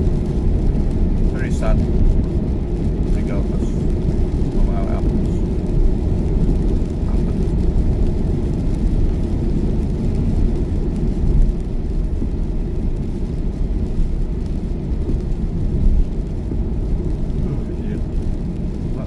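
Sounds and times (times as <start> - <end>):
tyre and road noise in car: 0.0 - 19.0.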